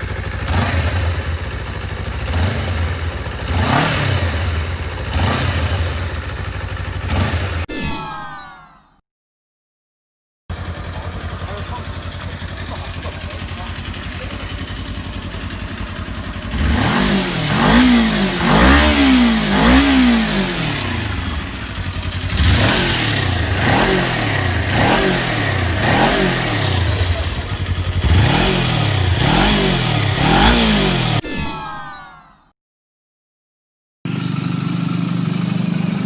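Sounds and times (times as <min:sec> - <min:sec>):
motorcycle engine idling and revving: 0:00.0 - 0:07.7, 0:10.5 - 0:31.2, 0:34.1 - 0:36.0.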